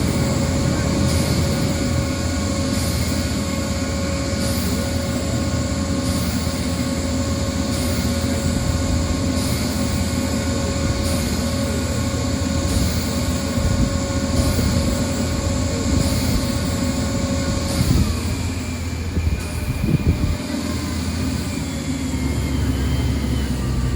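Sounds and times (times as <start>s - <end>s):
heavy machine engine rumbling: 0.0s - 23.9s
steady engine whine: 0.0s - 23.9s.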